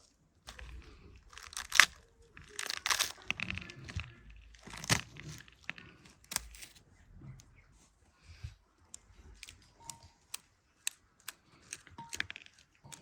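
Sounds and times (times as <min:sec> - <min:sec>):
crunching and crinkling handling: 0:00.0 - 0:13.0.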